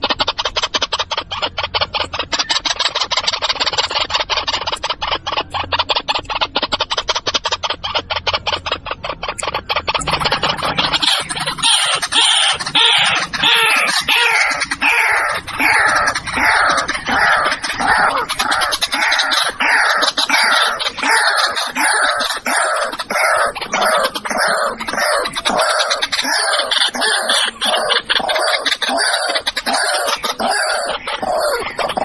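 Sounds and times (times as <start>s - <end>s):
waterhen harsh calls: 0.0s - 32.0s.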